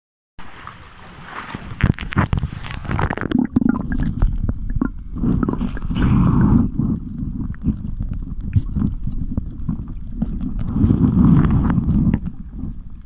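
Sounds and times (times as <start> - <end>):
wind buffeting microphone: 1.2 - 13.0
microphone handling noise: 1.4 - 13.0.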